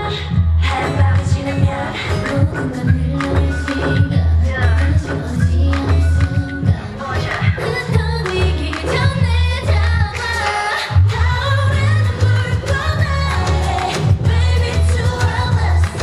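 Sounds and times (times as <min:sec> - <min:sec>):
female group vocals: 0:00.0 - 0:16.0
pop backing track with heavy bass: 0:00.0 - 0:16.0.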